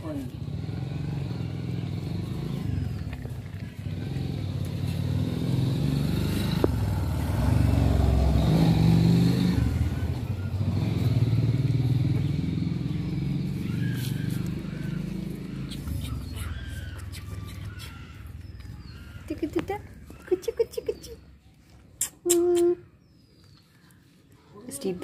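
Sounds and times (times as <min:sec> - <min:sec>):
engine humming: 0:00.0 - 0:21.8.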